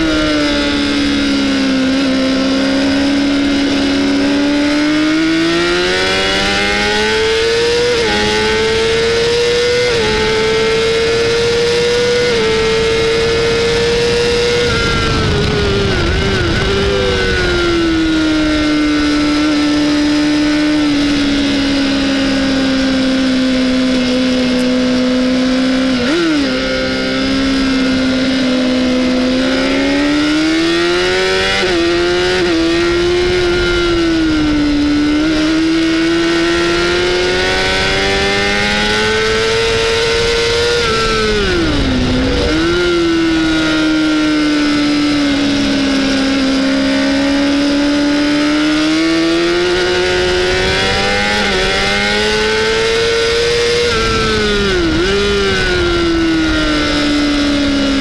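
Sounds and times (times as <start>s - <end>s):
motorcycle engine at high revs: 0.0s - 58.0s
wind rush: 0.0s - 58.0s.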